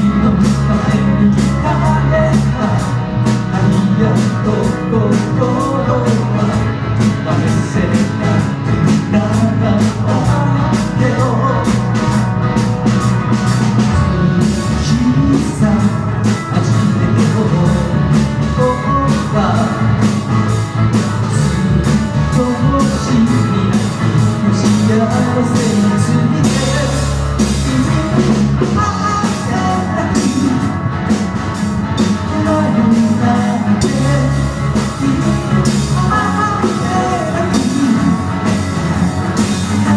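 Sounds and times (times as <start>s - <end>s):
drum kit: 0.0s - 39.9s
electric guitars: 0.0s - 39.9s
person singing: 0.0s - 39.9s.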